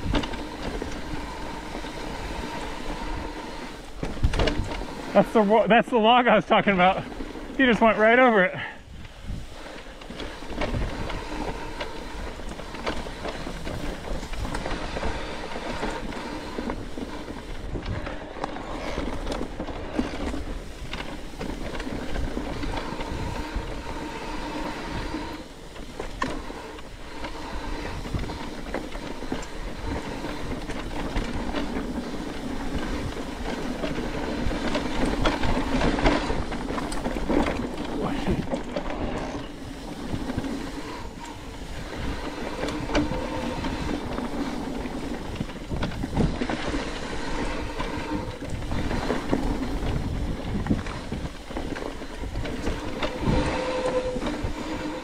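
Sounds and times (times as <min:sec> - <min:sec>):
bike rattling over bumps: 0:00.0 - 0:55.0
tyres rumbling on dirt: 0:00.0 - 0:55.0.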